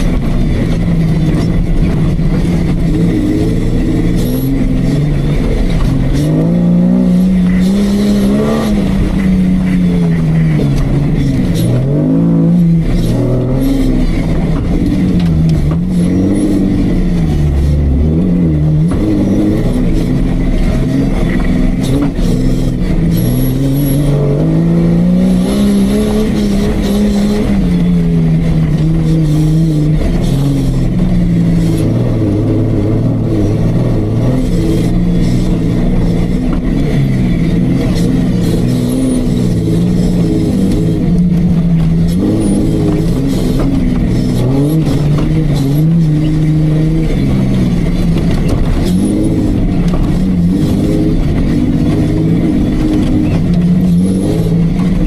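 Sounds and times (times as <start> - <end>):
jeep engine revving: 0.0 - 55.0.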